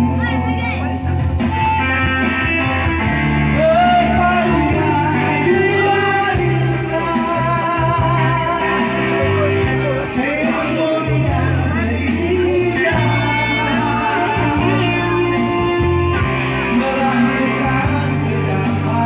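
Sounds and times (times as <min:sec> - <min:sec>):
bass line: 0:00.0 - 0:19.0
man singing: 0:03.0 - 0:19.0.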